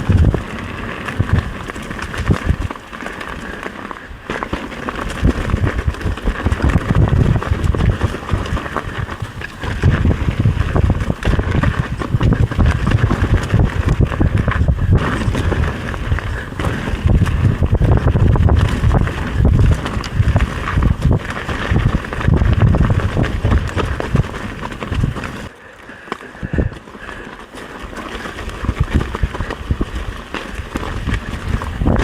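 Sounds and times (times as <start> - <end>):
wind buffeting microphone: 0.0 - 2.8, 5.0 - 25.5, 26.4 - 26.8, 27.9 - 32.0
bike rattling: 0.0 - 32.0
bike tyres crunching over debris: 0.0 - 32.0.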